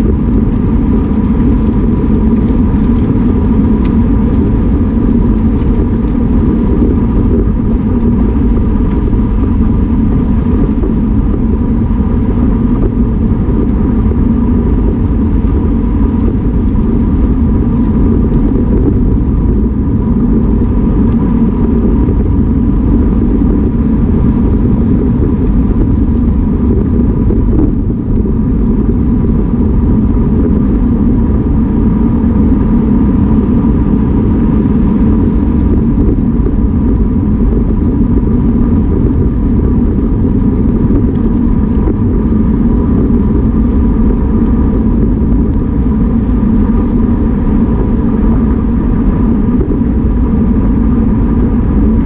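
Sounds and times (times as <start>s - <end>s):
faint steady whine: 0.0s - 52.0s
wind rush and road rumble: 0.0s - 52.0s.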